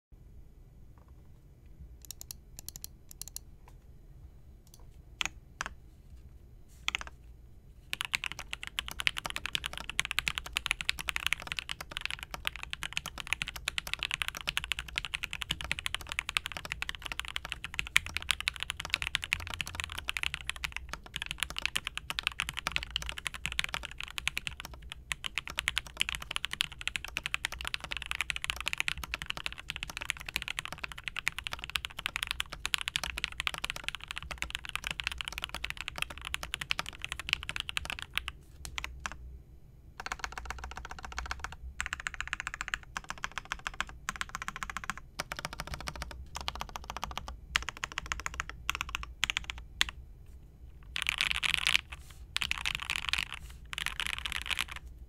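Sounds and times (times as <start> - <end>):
mechanical keyboard typing: 2.0 - 3.4, 6.9 - 7.1, 7.9 - 39.2, 40.0 - 50.0, 50.8 - 54.8.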